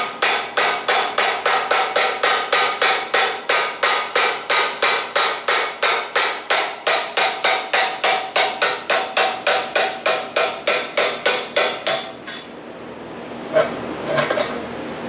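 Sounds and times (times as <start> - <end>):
hammer striking steel punch: 0.0 - 12.2.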